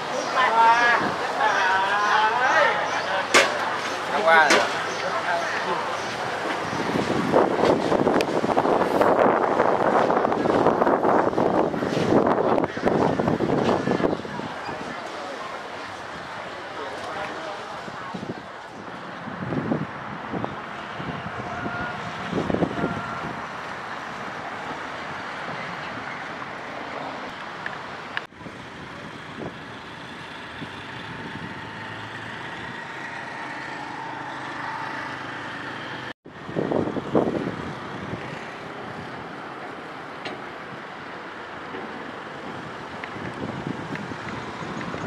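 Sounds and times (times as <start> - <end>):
passing cars and motorbikes: 0.0 - 45.0.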